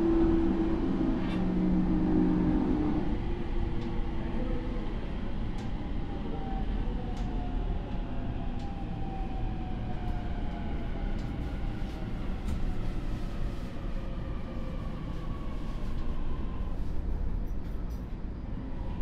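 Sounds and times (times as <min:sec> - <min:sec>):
train rumbling slowly: 0:00.0 - 0:19.0.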